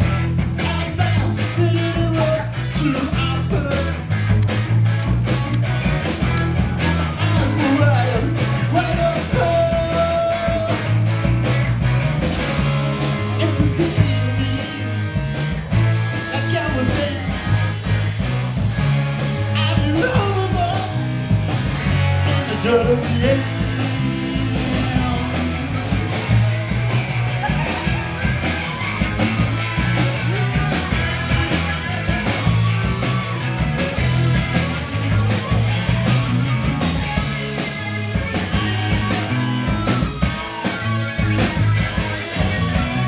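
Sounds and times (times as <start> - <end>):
bass line: 0.0 - 43.0
drum kit: 0.0 - 43.0
electric guitars: 0.0 - 43.0.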